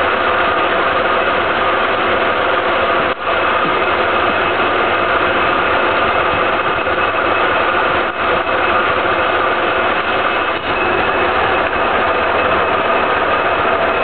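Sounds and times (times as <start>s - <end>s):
lathe drone: 0.0s - 14.0s.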